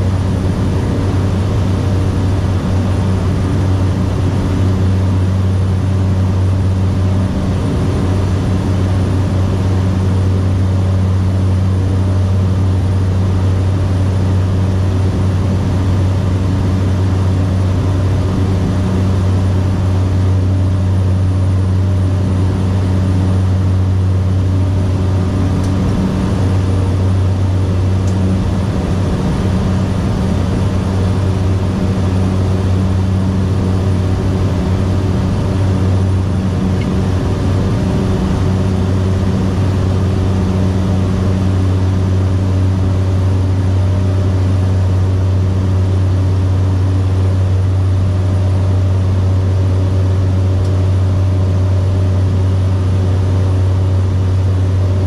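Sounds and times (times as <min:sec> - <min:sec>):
turboprop plane droning: 0:00.0 - 0:55.0.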